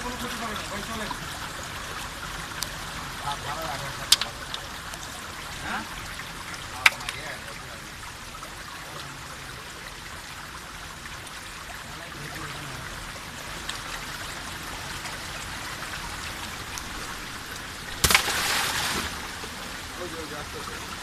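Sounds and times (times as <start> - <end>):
stream flowing over stones: 0.0 - 21.0.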